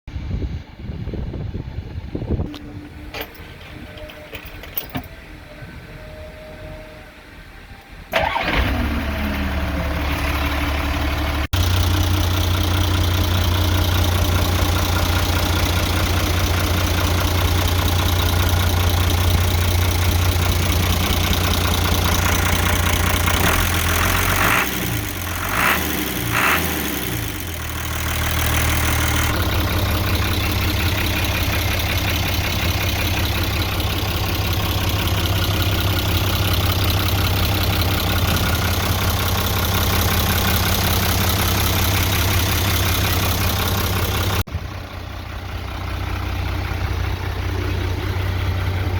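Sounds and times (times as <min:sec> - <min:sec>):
diesel engine idling: 0:00.1 - 0:48.9.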